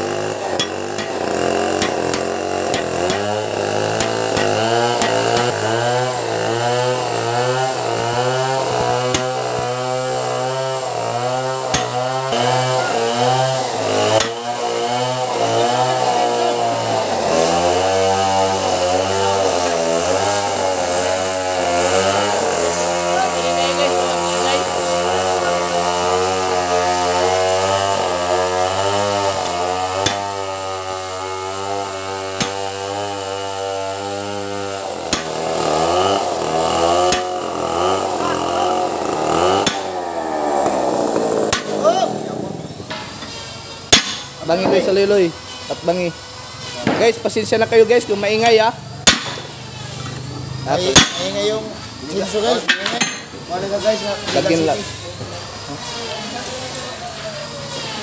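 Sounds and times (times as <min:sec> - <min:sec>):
chainsaw running: 0:00.0 - 0:58.0.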